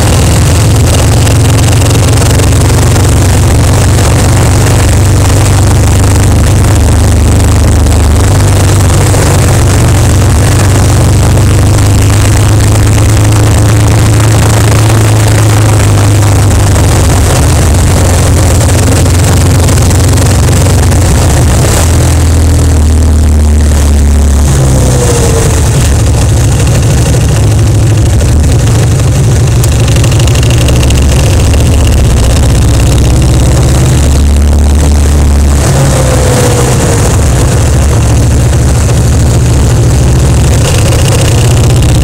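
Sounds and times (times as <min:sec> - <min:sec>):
motorcycle engine running: 0:00.0 - 0:42.0
rush of noise: 0:00.0 - 0:42.0.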